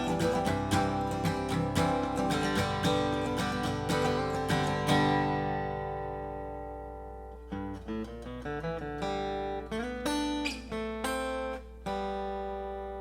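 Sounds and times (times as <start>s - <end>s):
acoustic guitar strummed and picked: 0.0s - 13.0s.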